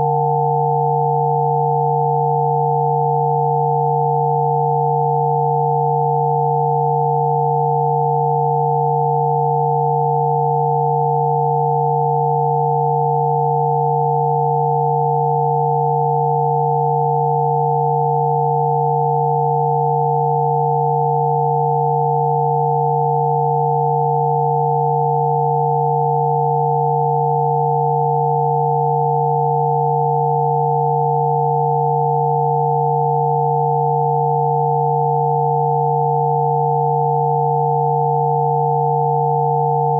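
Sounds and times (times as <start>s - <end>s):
pure sine tones: 0.0s - 39.9s.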